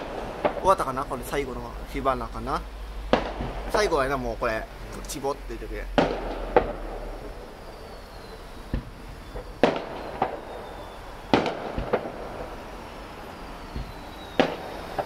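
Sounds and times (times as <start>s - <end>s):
firework shells bursting: 0.0s - 5.3s, 5.9s - 15.0s.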